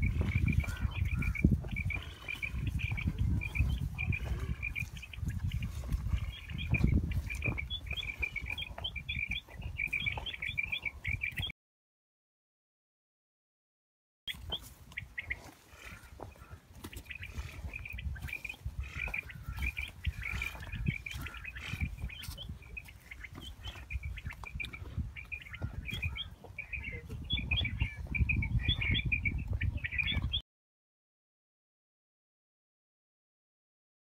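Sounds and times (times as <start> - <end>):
quail chirping calls: 0.0 - 11.5, 14.3 - 30.4.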